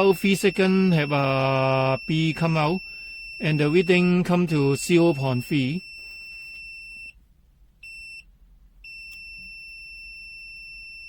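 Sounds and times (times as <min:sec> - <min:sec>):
multimeter high-pitched beep: 0:00.0 - 0:07.2, 0:08.9 - 0:11.0.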